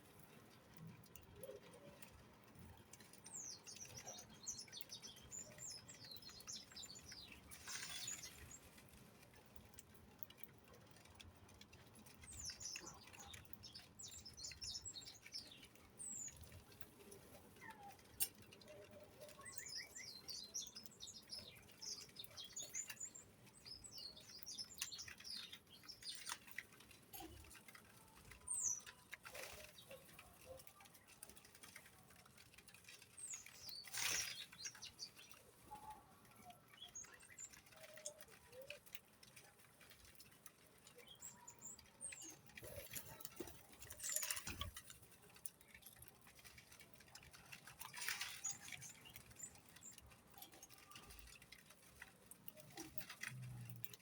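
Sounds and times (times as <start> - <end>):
soft pattering: 0.0 - 54.0
birds chirping: 3.0 - 8.8, 11.0 - 54.0.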